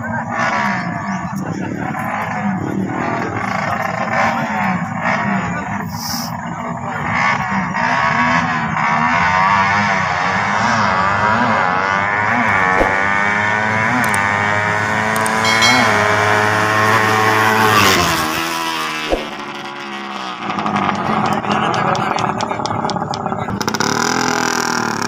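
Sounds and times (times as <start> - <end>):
motorcycle engines revving: 0.0 - 5.8, 6.4 - 15.5, 17.9 - 25.0.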